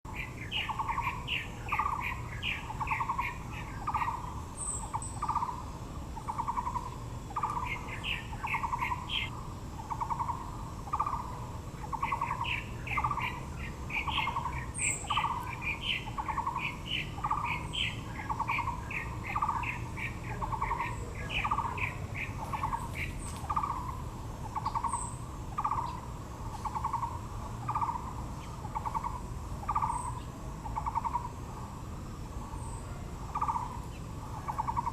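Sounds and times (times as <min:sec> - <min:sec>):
bird repeating low pulsed note: 0:00.1 - 0:34.9.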